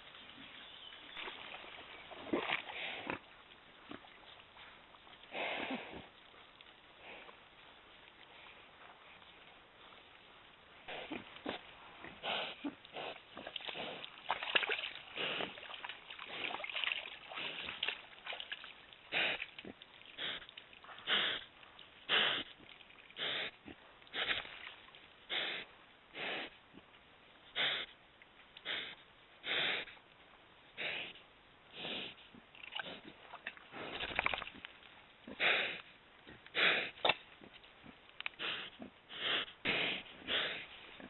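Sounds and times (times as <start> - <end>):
wild boar sniffing: 2.2 - 10.2, 10.8 - 18.4, 19.0 - 26.9, 27.5 - 28.0, 28.6 - 30.0, 30.7 - 34.4, 35.2 - 41.0.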